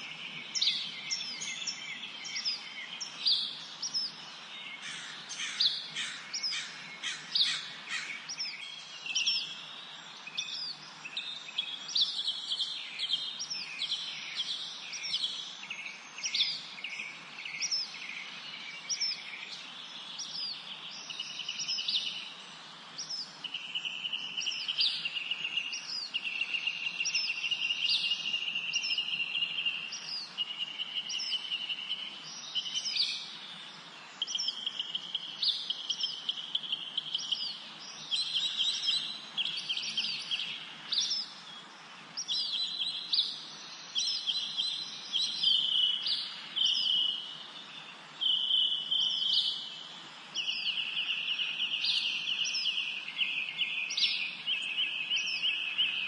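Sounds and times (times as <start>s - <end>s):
faint outdoor hiss: 0.0s - 56.0s
songbirds chirping: 0.0s - 56.0s.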